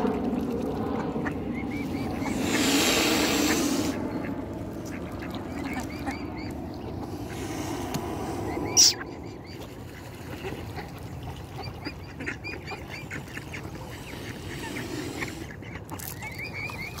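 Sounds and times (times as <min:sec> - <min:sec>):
low background rumble: 0:00.0 - 0:16.9
waterfowl calling: 0:01.2 - 0:09.7, 0:10.4 - 0:17.0.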